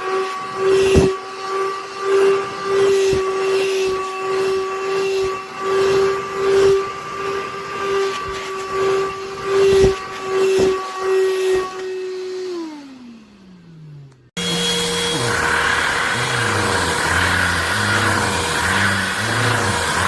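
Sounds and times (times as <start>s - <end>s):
handheld vacuum motor whining: 0.0s - 20.0s.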